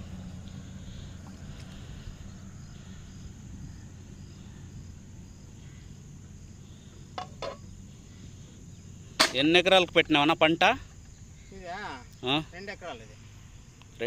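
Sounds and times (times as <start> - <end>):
insects chirping: 0.0 - 14.0
low outdoor noise: 0.0 - 14.0.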